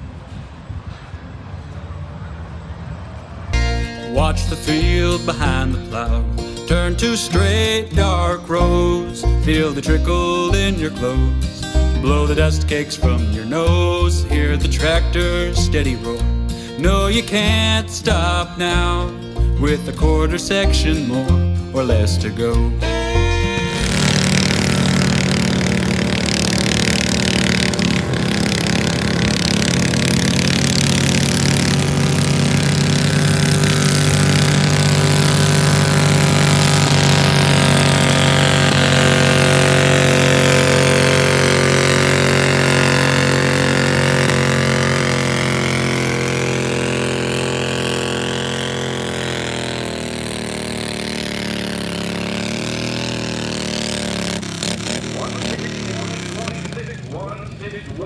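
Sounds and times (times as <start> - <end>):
garden tractor engine running: 3.1 - 58.0.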